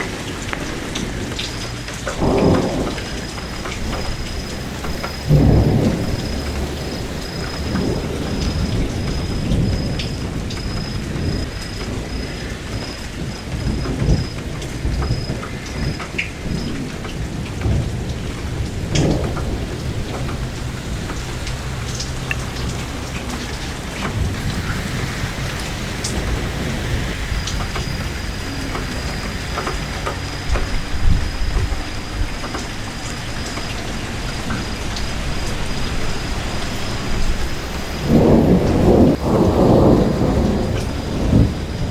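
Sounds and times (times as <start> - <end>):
rain pattering: 0.0 - 41.9
thunder rumbling: 0.0 - 41.9.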